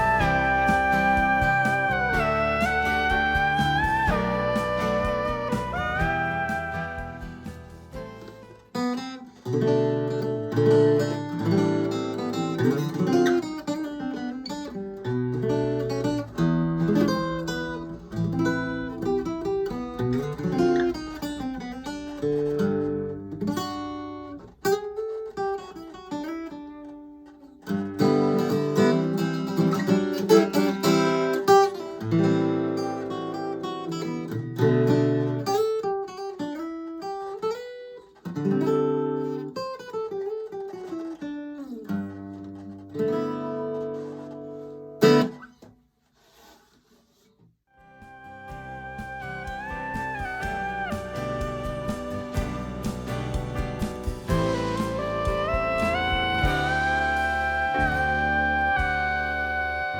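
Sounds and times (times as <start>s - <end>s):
acoustic guitar melody: 0.0s - 45.7s, 47.7s - 59.9s.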